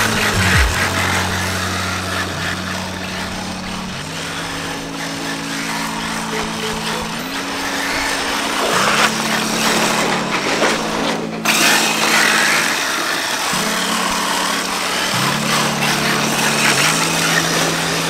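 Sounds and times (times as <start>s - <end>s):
background music with low notes: 0.0s - 18.0s
electric rc car whine: 0.0s - 18.0s.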